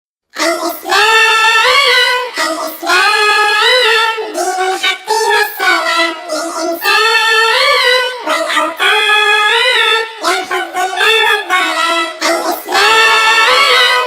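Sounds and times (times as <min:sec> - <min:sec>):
child singing: 0:00.4 - 0:14.0.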